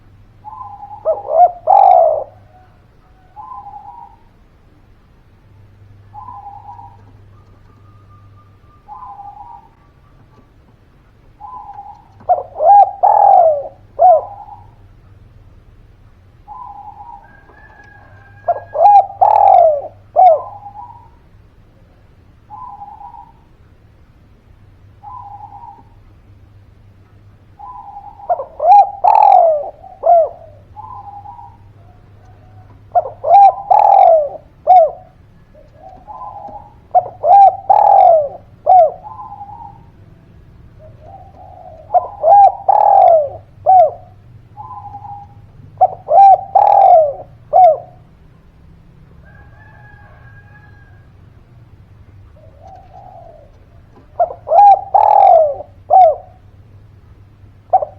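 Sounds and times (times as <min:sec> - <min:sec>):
dove cooing: 0:00.0 - 0:15.3, 0:16.4 - 0:23.6, 0:24.8 - 0:26.7, 0:27.3 - 0:57.9.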